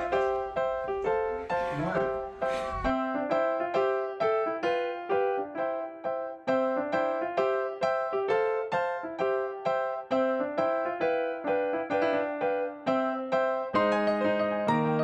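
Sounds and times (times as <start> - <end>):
simple piano melody: 0.0 - 15.0.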